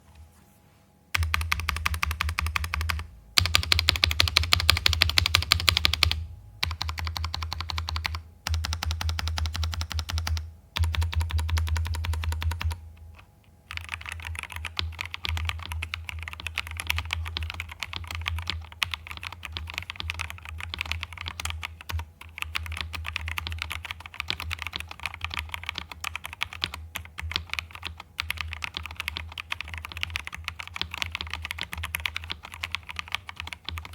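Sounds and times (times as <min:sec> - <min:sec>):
mechanical keyboard typing: 0:01.2 - 0:33.9.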